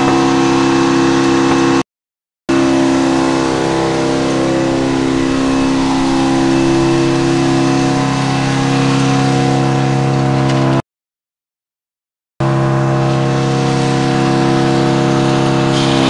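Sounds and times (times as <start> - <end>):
sawmill engine droning: 0.0 - 1.8, 2.5 - 10.8, 12.4 - 16.0.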